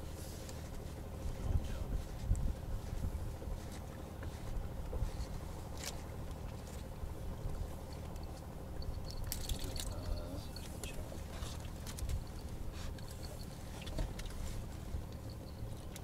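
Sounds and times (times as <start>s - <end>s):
boat rumbling on water: 0.0s - 16.0s
fishing gear clicks and rustles: 1.9s - 16.0s.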